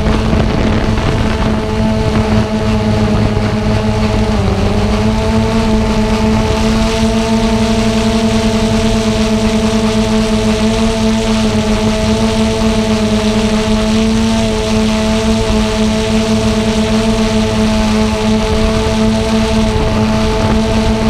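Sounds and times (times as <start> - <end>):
drone motors humming: 0.0 - 21.0.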